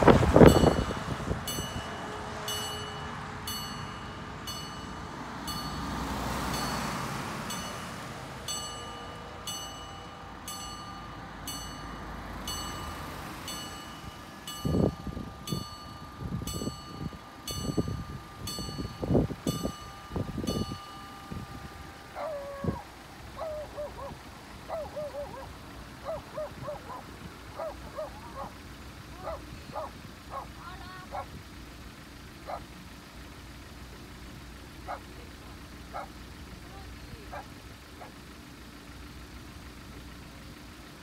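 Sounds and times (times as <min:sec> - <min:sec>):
truck passing: 0:00.0 - 0:41.0
level crossing warning bell: 0:00.1 - 0:41.0.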